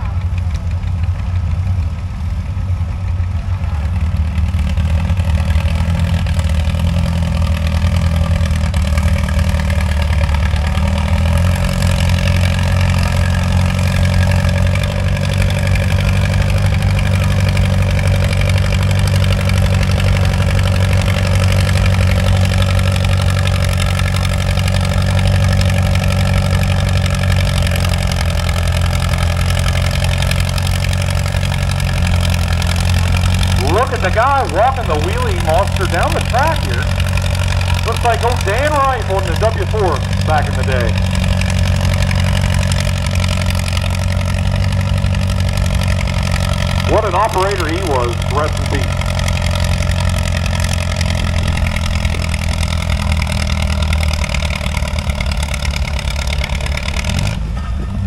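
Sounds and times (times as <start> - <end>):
tractor engine under heavy load: 0.0 - 58.0.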